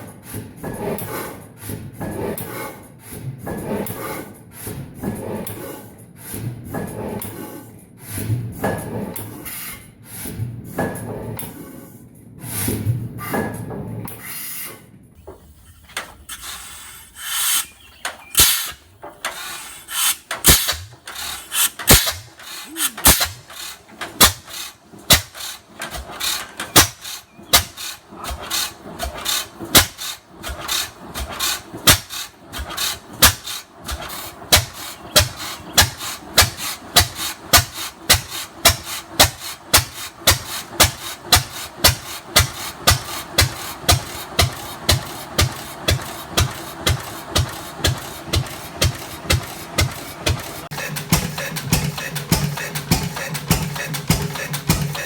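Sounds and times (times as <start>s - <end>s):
large engine starting: 10.1s - 55.0s.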